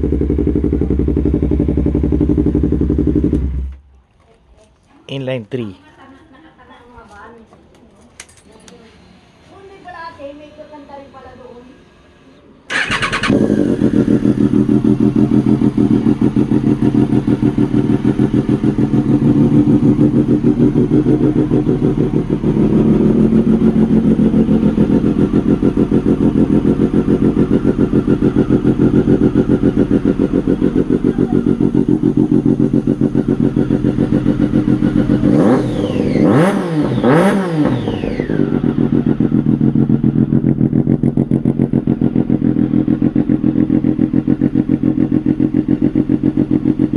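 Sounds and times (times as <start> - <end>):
motorcycle engine idling: 0.0 - 3.8, 12.7 - 46.9
motorcycle engine revving: 0.0 - 3.8, 12.7 - 46.9.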